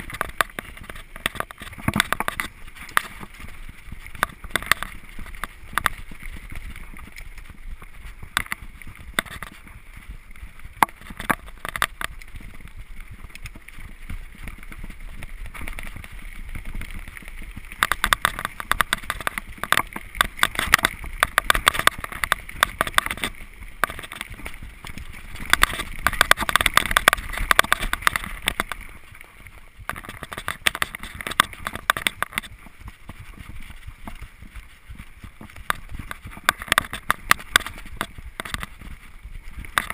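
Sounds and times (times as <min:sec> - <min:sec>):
bike rattling over bumps: 0:00.0 - 0:39.9
bike tyres on dirt: 0:00.0 - 0:39.9.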